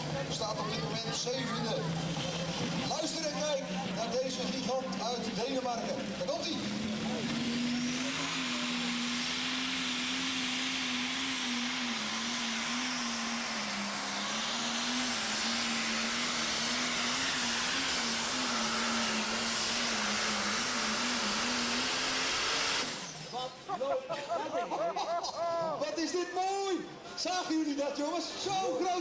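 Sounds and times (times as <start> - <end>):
pulling truck engine at full power: 0.0 - 23.7.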